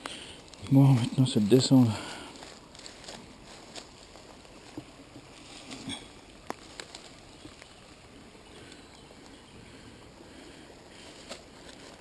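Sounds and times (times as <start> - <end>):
small stream flowing: 0.0 - 12.0.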